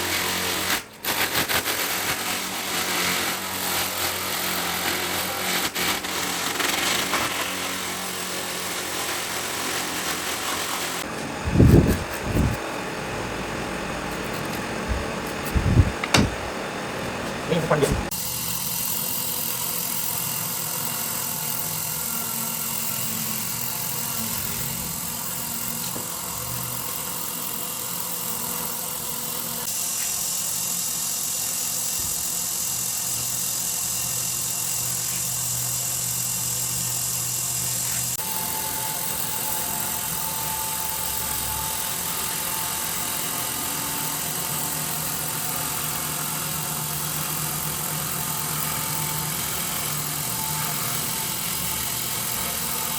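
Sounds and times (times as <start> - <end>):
power tool motor running: 0.0 - 52.9.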